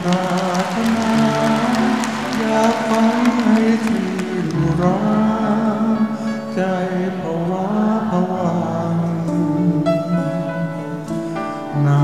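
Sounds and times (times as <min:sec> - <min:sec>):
elderly man singing: 0:00.0 - 0:12.0
live band playing: 0:00.0 - 0:12.0.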